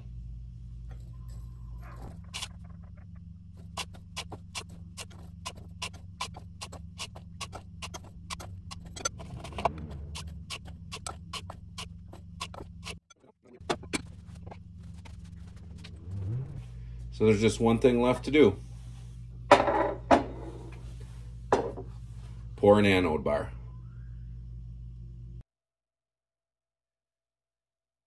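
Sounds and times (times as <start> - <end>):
steady low hum: 0.0 - 25.4.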